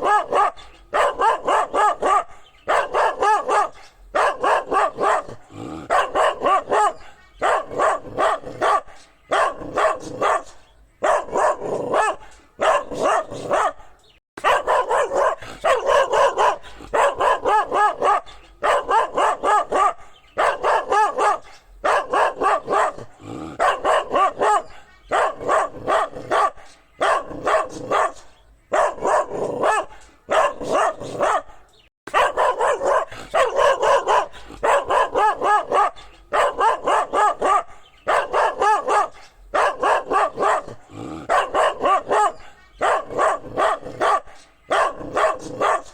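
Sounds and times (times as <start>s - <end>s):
dog barking: 0.0s - 45.9s.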